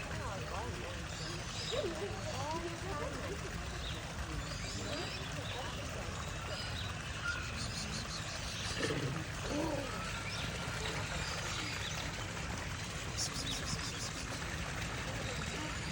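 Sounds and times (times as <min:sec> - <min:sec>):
faint indistinct voices: 0:00.0 - 0:15.9.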